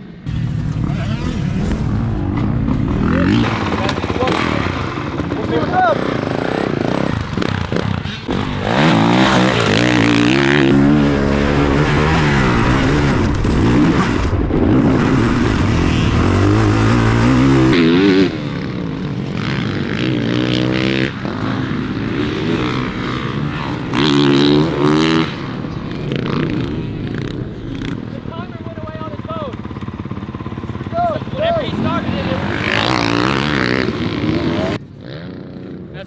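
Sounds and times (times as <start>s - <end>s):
dirt bike engine revving: 0.2s - 36.0s.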